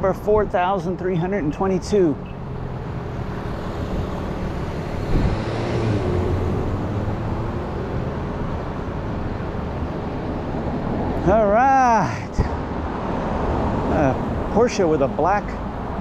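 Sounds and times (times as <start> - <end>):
cars driving past: 1.2 - 16.0.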